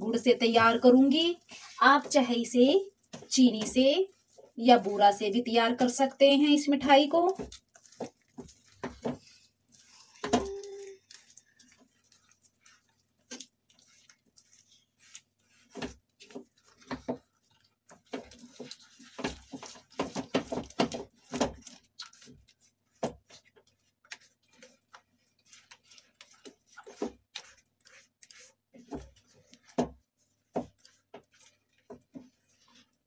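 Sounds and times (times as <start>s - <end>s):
spatula scraping a pan: 0.1s - 33.0s.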